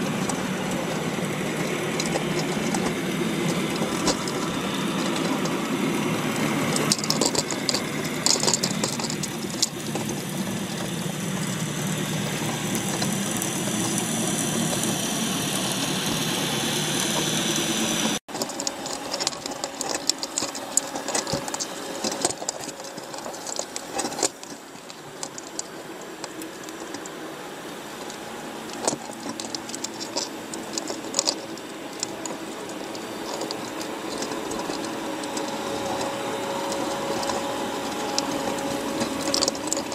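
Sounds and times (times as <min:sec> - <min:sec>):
crab shells clicking and scraping: 0:00.0 - 0:17.5, 0:18.3 - 0:39.9
steady mechanical hum: 0:00.0 - 0:39.9.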